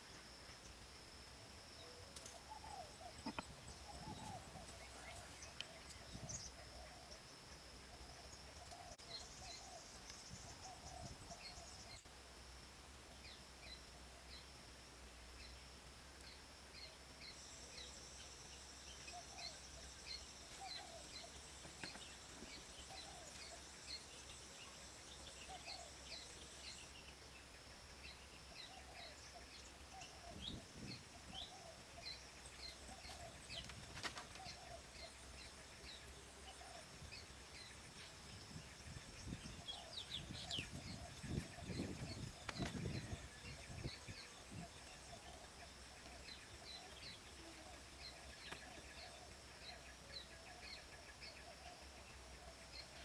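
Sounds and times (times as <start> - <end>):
small birds chirping: 2.2 - 12.1, 16.2 - 53.0.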